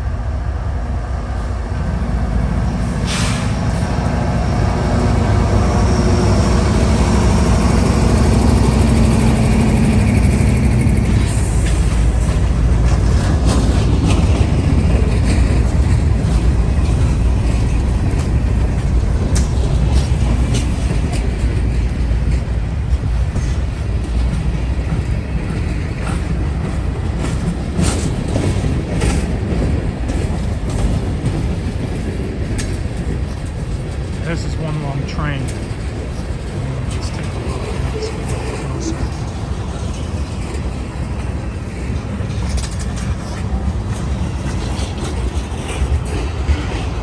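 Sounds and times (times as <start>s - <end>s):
locomotive engine rumble: 0.0s - 47.0s
freight cars clacking and rattling: 2.2s - 47.0s.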